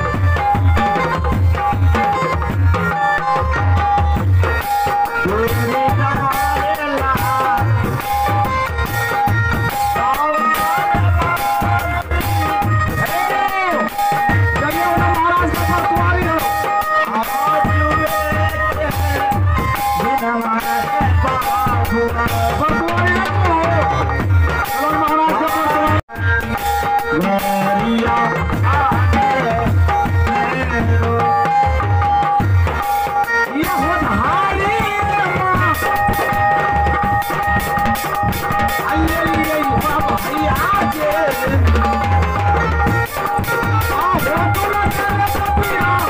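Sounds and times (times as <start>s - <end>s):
folk melody instrument: 0.0s - 46.0s
hand drum beating: 0.0s - 46.0s
held keyboard notes: 0.0s - 46.0s
person singing into microphone: 5.1s - 8.8s, 9.7s - 32.3s, 33.3s - 46.0s.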